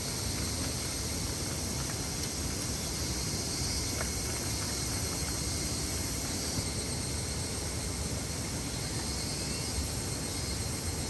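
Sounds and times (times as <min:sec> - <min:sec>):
even hiss: 0:00.0 - 0:11.0.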